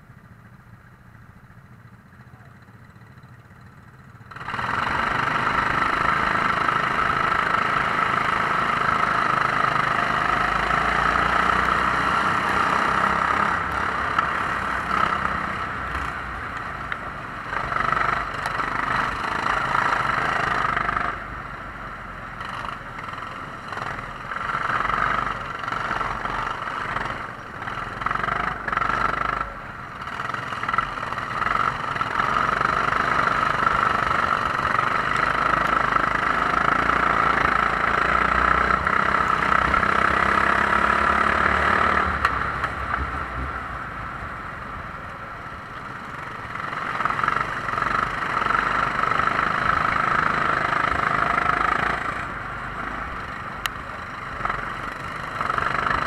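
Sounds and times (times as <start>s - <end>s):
kart engines revving: 1.6s - 56.0s.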